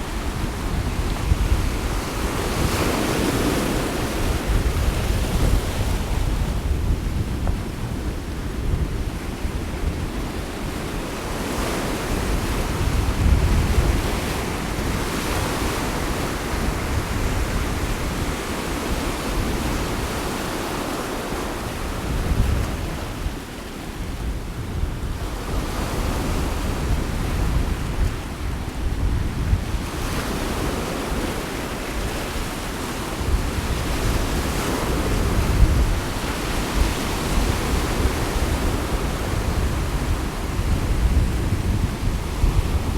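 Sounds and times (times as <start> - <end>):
sea waves washing onto shore: 0.0 - 42.9
wind rumbling on microphone: 0.0 - 42.9.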